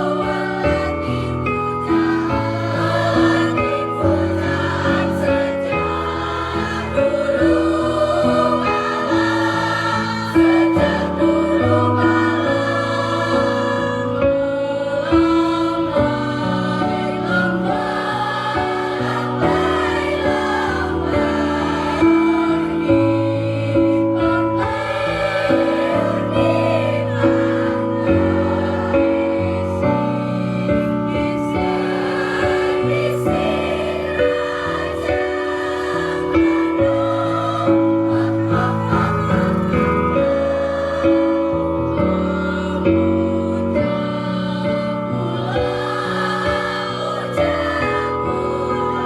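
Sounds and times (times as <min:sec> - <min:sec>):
choir singing in parts: 0:00.0 - 0:49.0.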